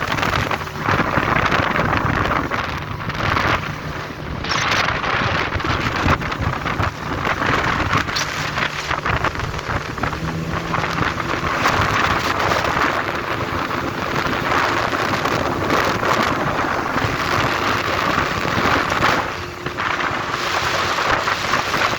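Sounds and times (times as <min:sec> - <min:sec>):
outboard motor drone: 0:00.0 - 0:21.9
wind on microphone: 0:00.0 - 0:21.9.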